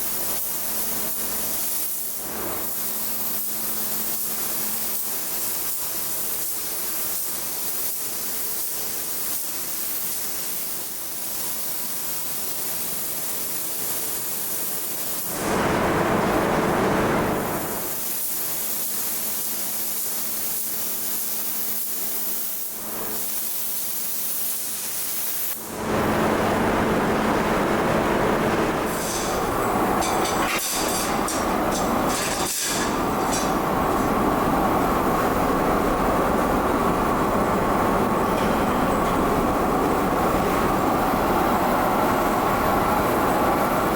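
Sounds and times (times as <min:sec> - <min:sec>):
workshop machinery hissing: 0:00.0 - 0:43.9.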